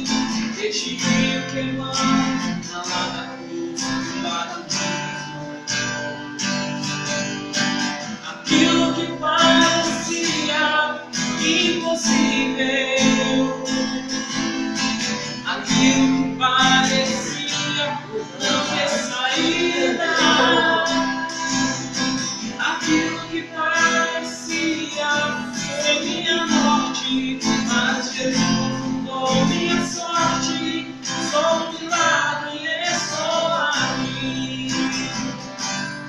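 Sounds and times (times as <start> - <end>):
man singing: 0.0 - 5.5, 8.1 - 35.5
acoustic guitar strumming: 0.0 - 36.0.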